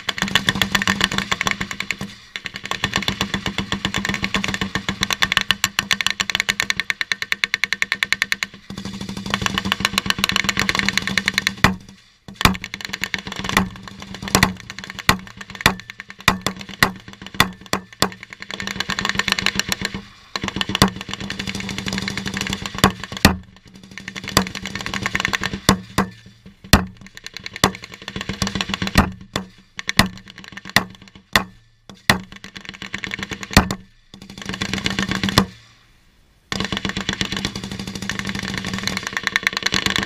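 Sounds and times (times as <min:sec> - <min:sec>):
automatic machine-gun fire: 0:00.0 - 0:26.2, 0:26.8 - 0:31.1, 0:32.2 - 0:35.6, 0:36.5 - 0:40.0.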